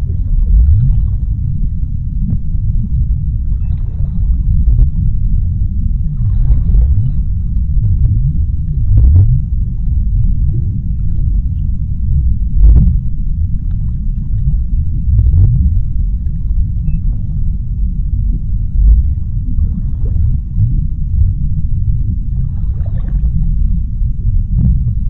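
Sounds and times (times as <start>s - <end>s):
deep underwater rumble: 0.0s - 25.0s.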